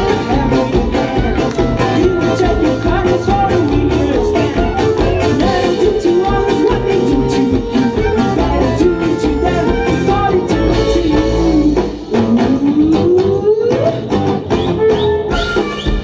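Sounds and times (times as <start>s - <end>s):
person singing: 0.0s - 14.0s
acoustic dance band playing: 0.0s - 16.0s.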